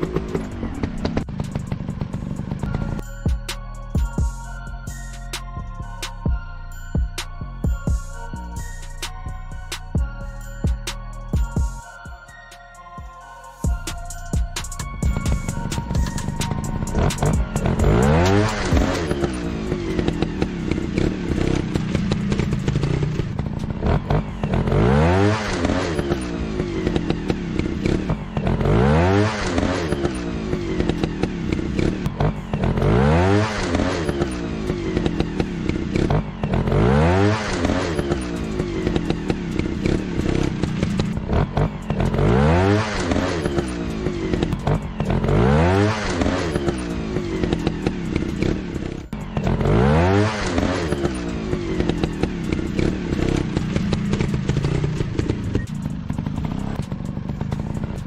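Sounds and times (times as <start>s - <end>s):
motorcycle engine revving: 0.0s - 5.0s, 13.7s - 58.0s.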